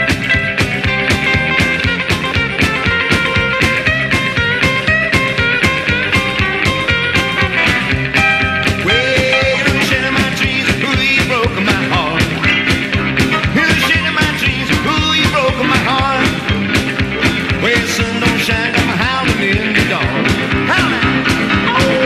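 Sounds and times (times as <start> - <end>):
rockabilly band playing: 0.0 - 22.0.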